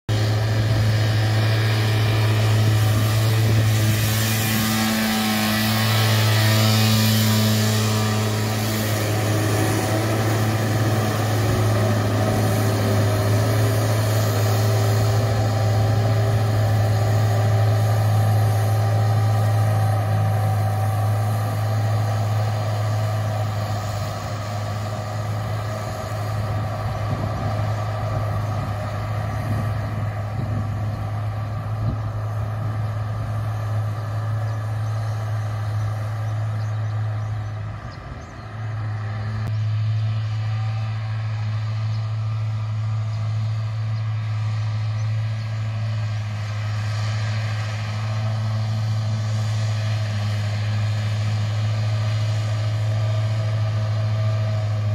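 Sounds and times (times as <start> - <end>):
tractor engine hum: 0.1 - 54.9.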